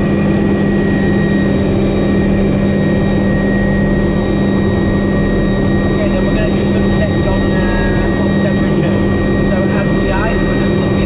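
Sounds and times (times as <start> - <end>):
helicopter engine hum: 0.0 - 11.0
high turbine whine: 0.0 - 11.0.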